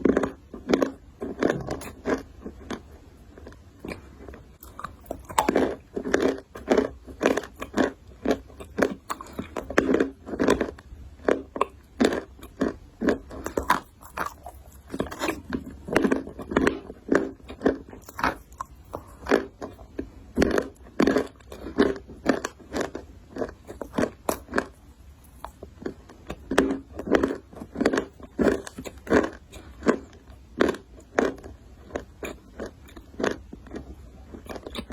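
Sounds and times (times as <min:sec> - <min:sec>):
person chewing crunchy food: 0:00.0 - 0:34.9.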